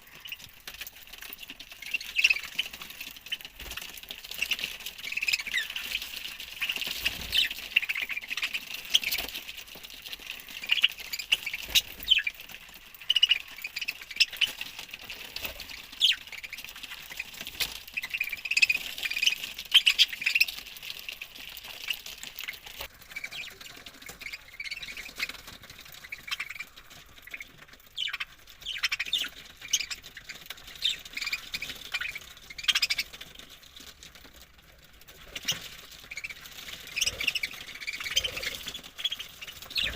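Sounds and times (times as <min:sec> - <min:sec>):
budgerigars chirping and squawking: 0:00.0 - 0:00.5, 0:01.7 - 0:09.4, 0:10.4 - 0:12.4, 0:13.0 - 0:33.2, 0:35.2 - 0:39.9.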